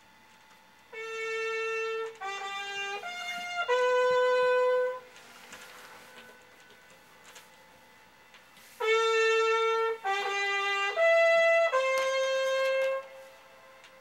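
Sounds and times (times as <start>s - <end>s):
horn-like wind instrument: 0.9s - 7.4s, 8.6s - 14.0s.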